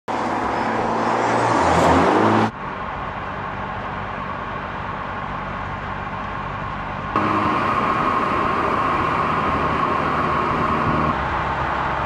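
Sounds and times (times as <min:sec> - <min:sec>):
car cruising drone: 0:00.1 - 0:12.0
car engine and exhaust: 0:00.1 - 0:12.0.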